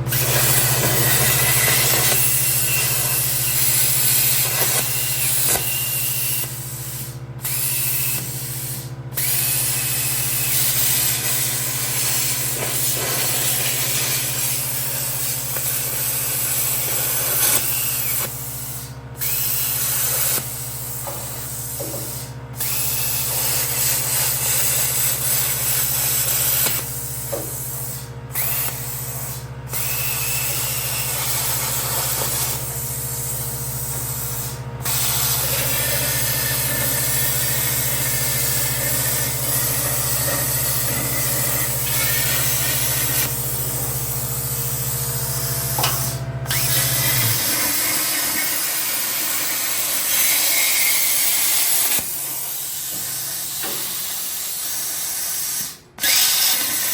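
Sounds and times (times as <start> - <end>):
low machine hum: 0.0 - 50.2
plasma cutter hissing: 0.1 - 56.9.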